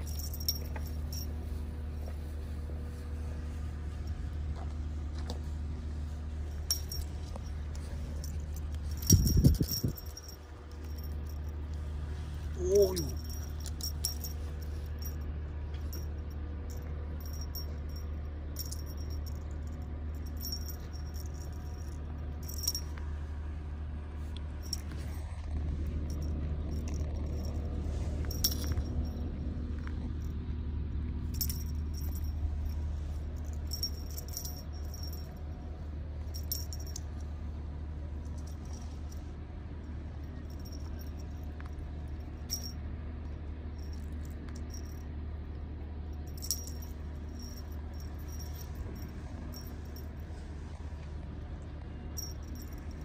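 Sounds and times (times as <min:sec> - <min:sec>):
light metallic jingling: 0:00.0 - 0:23.3, 0:24.5 - 0:30.4, 0:31.0 - 0:45.2, 0:46.0 - 0:53.0
steady low hum: 0:00.0 - 0:53.0.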